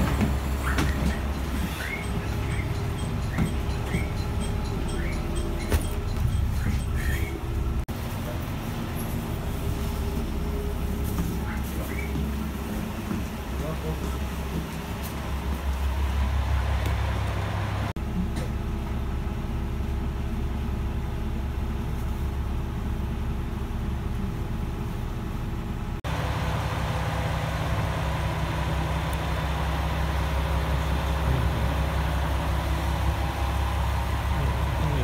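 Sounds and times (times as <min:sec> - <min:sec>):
diesel railcar engines idling: 0:00.0 - 0:35.0.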